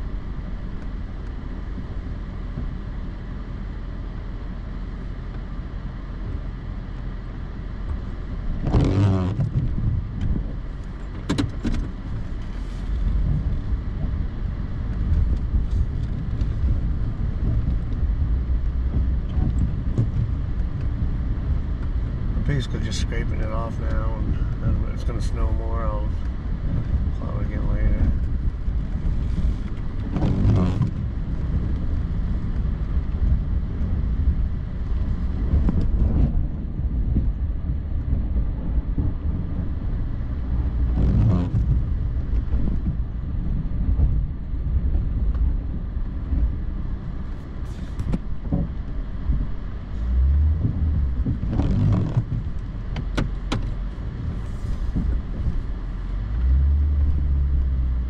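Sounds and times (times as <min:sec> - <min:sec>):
plow vehicle engine rumbling: 0:00.0 - 0:58.0.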